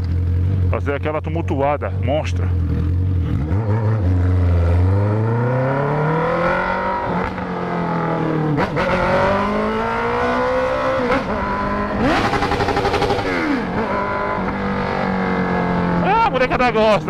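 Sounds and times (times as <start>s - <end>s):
motorcycle accelerating hard: 2.1s - 17.0s.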